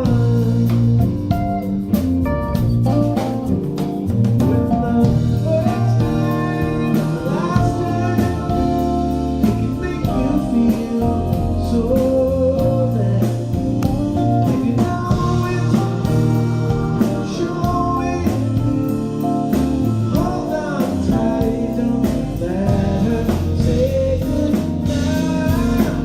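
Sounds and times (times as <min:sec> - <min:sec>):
live band playing: 0:00.0 - 0:26.0
melodic lead line: 0:00.0 - 0:26.0.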